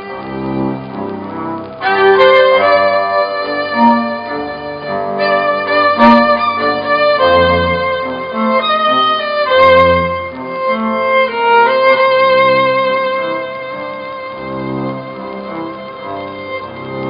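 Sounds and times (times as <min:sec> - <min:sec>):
violin playing slow melody: 0:00.0 - 0:17.0.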